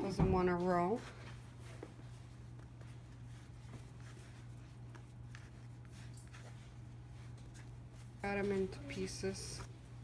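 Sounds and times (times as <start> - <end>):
hands rubbing dough on board: 0.0 - 10.0.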